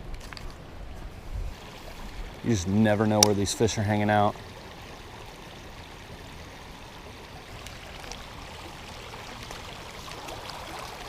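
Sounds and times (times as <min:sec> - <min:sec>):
river water running: 0:00.0 - 0:11.0.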